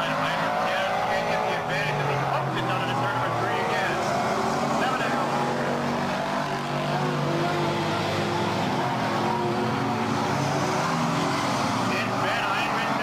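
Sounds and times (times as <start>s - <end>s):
racing truck engines: 0.0s - 13.0s.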